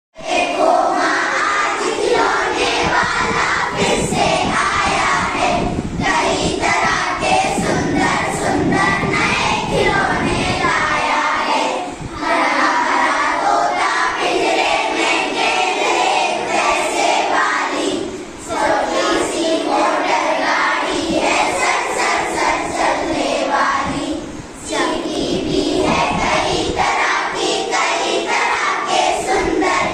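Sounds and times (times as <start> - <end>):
children singing in unison: 0.2 - 29.9.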